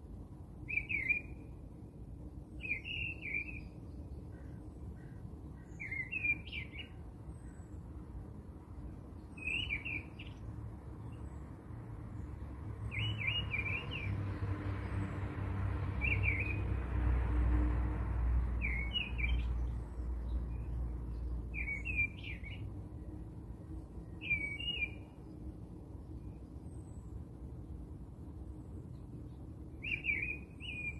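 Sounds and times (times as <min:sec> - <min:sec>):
songbird chirping: 0:00.6 - 0:01.7, 0:02.3 - 0:16.8, 0:18.2 - 0:30.9.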